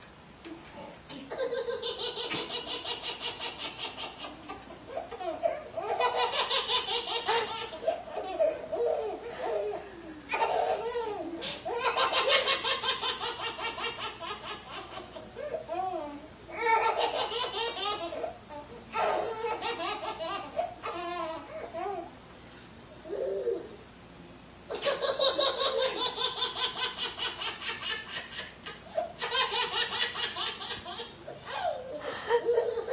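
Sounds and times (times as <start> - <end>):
baby laughing: 1.3 - 22.0, 24.7 - 32.9.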